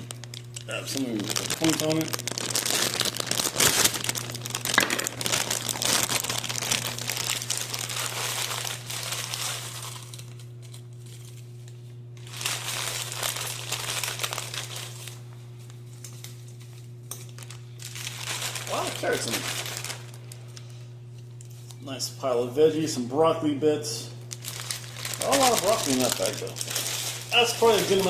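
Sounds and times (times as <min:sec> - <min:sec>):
plastic bag crinkling: 0:00.0 - 0:20.8, 0:24.2 - 0:28.0
steady low hum: 0:00.0 - 0:28.0.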